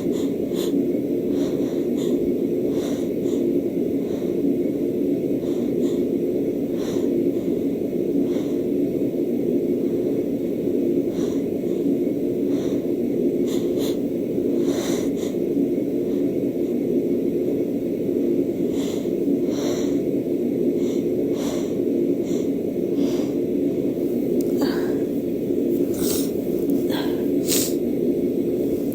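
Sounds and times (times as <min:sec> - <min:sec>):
woman's sharp breaths and sniffs: 0:00.0 - 0:04.5, 0:05.4 - 0:08.8, 0:09.8 - 0:16.4, 0:18.6 - 0:20.1, 0:20.7 - 0:28.9
low hum: 0:00.0 - 0:28.9.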